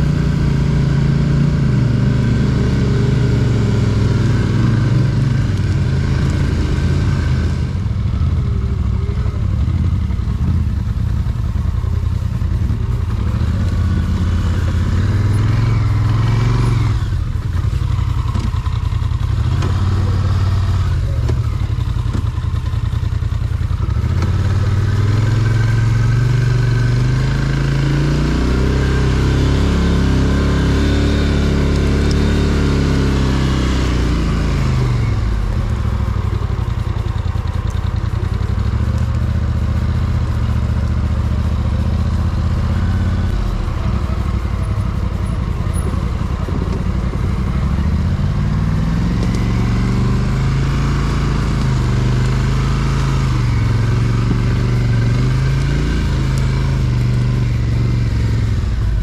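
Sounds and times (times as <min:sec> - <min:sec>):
quad engine revving: 0:00.0 - 0:11.6, 0:12.4 - 0:59.0.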